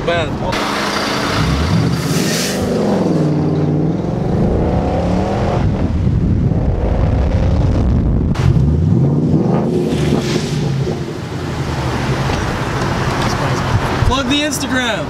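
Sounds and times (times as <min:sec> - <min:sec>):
wind and road noise: 0:00.0 - 0:15.0
car engine accelerating hard: 0:00.5 - 0:14.1.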